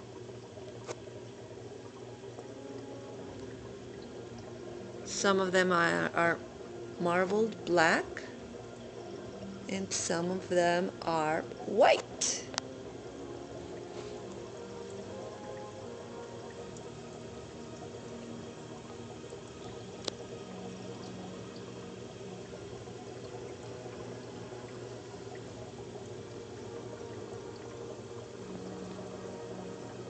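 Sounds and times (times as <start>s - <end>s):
aquarium water trickling: 0.0s - 30.0s
low pump hum: 0.0s - 30.0s.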